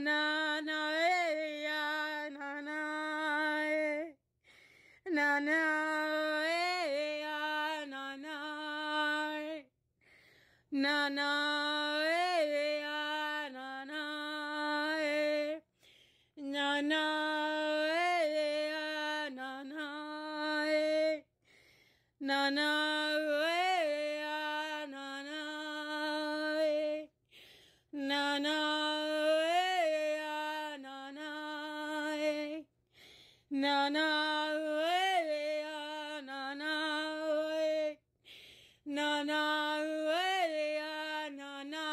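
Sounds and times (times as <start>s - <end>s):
woman chanting: 0.0s - 4.2s, 5.0s - 9.7s, 10.7s - 15.7s, 16.4s - 21.3s, 22.2s - 27.2s, 28.0s - 32.7s, 33.5s - 38.1s, 38.9s - 41.9s.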